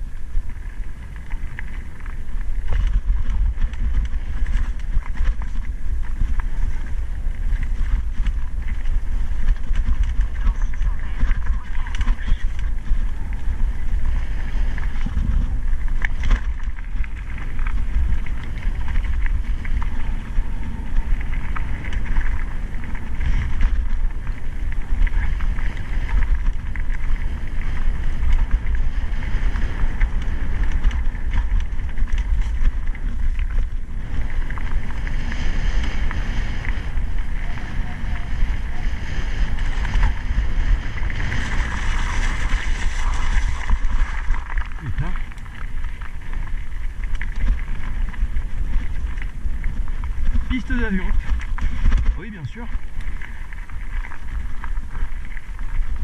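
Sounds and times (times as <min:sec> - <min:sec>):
bike rattling: 0:00.0 - 0:56.0
tyres rolling over rough ground: 0:00.0 - 0:56.0
wind buffeting microphone: 0:00.0 - 0:56.0.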